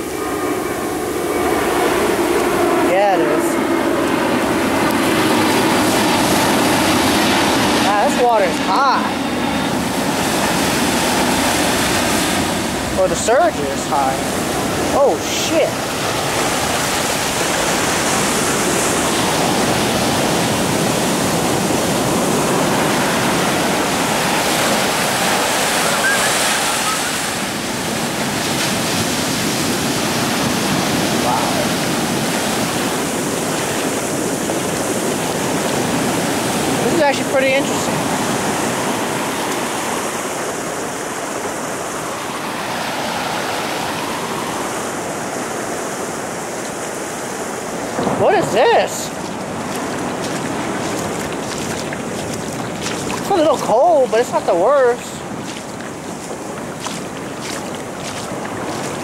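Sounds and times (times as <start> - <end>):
ocean surf rushing: 0.0 - 59.0.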